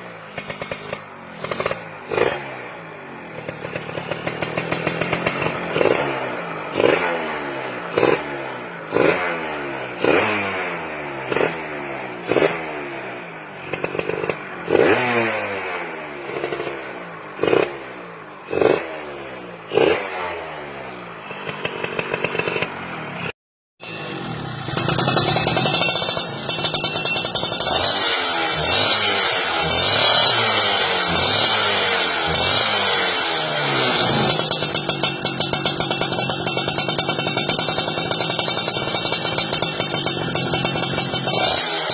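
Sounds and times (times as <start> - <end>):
dense engine sound: 0.0 - 41.9
two-stroke engine revving: 0.0 - 41.9.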